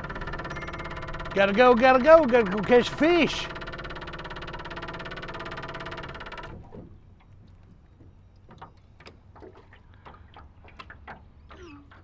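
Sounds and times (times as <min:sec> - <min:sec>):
faint water lapping: 0:00.0 - 0:12.0.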